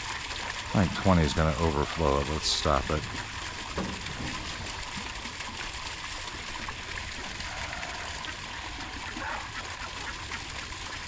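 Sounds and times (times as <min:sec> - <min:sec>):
hose water splashing: 0:00.0 - 0:11.0.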